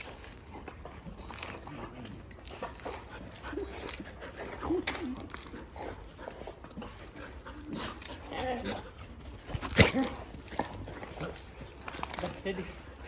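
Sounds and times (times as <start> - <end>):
dogs whining and whimpering: 0.0 - 13.0.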